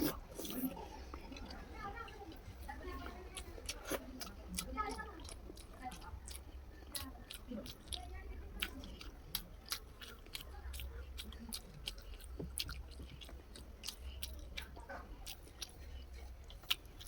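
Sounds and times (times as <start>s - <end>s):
close-miked chewing: 0.0s - 17.0s.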